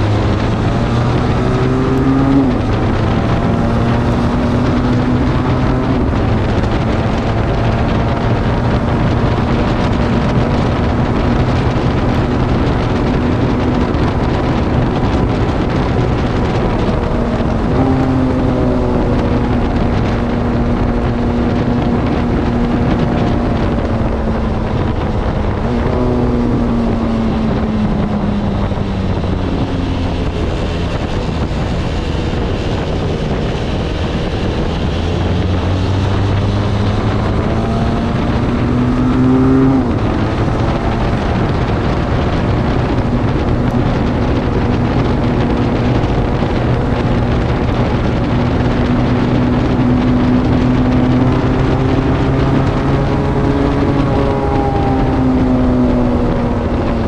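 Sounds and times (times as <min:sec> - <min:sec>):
motorcycle engine while riding: 0:00.0 - 0:57.0
wind noise on microphone: 0:00.0 - 0:57.0.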